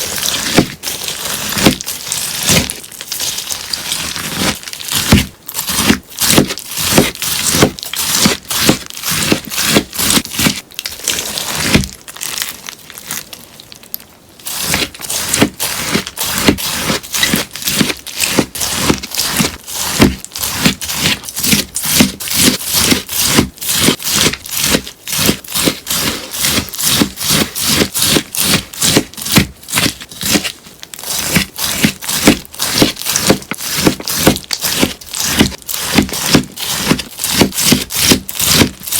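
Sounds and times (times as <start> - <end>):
sponge being cut crunchily: 0.0 - 12.5, 14.4 - 38.9.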